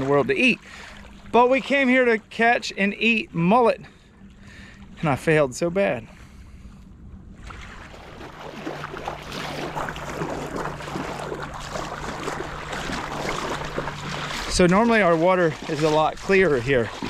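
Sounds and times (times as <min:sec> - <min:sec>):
steady low hum: 0:00.0 - 0:17.0
water lapping at shoreline: 0:00.0 - 0:17.0.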